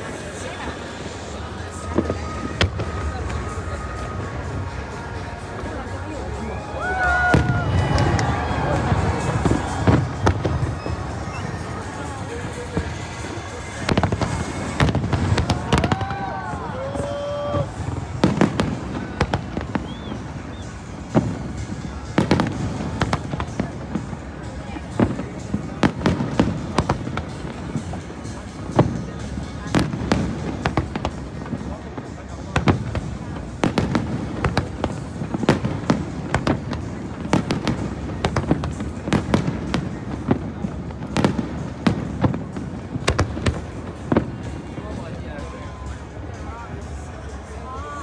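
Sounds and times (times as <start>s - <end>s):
fireworks bangs: 0.0s - 45.2s.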